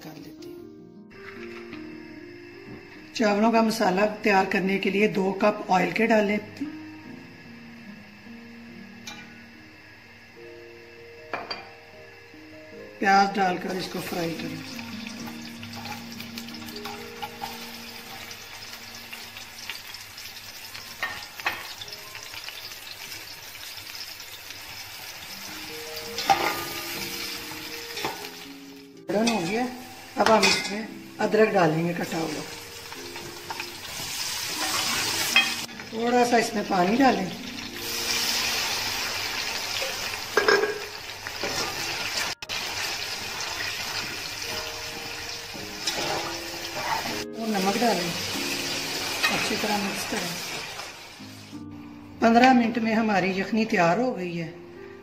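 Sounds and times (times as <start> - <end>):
onions sizzling in oil: 1.1 - 53.6.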